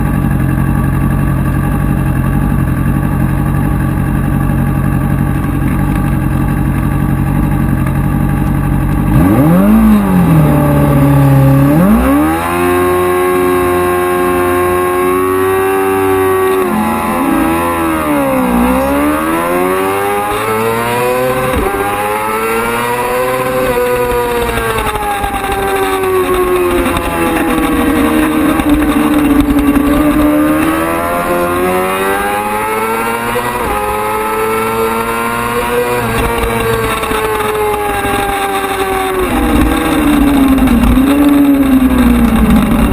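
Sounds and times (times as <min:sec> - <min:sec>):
racing motorcycle engine revving: 0:00.0 - 0:42.9.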